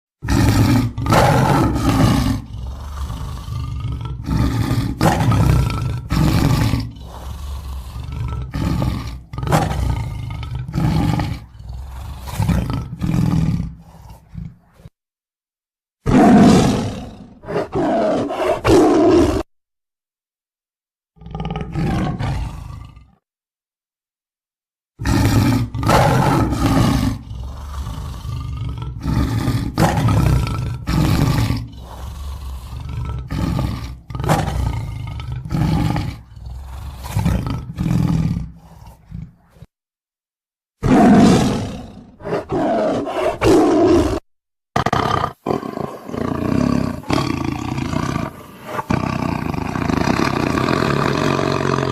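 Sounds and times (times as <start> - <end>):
tiger growling and roaring: 0.2 - 15.0, 16.0 - 19.5, 21.2 - 23.2, 25.0 - 39.7, 40.8 - 44.2, 44.8 - 51.9.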